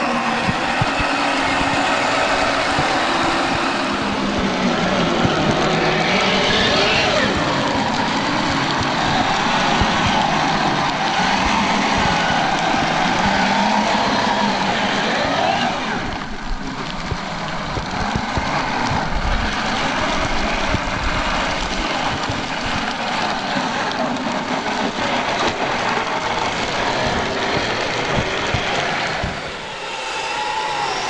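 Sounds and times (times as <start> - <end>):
tracks clattering through snow: 0.0 - 29.7
electric motor whine: 0.0 - 31.0.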